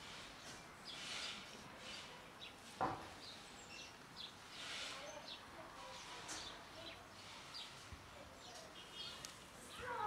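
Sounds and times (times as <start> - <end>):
small birds chirping: 0.2 - 10.0.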